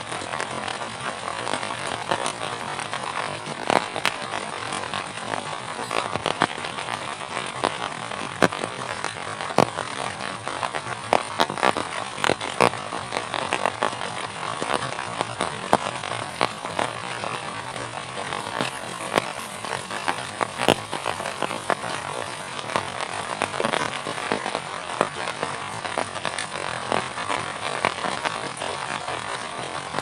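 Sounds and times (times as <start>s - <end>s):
heavy rain falling: 0.1s - 30.0s.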